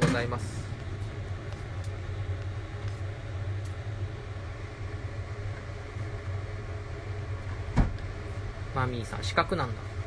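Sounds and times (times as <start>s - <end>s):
gas burner rumble and hiss: 0.0s - 10.0s.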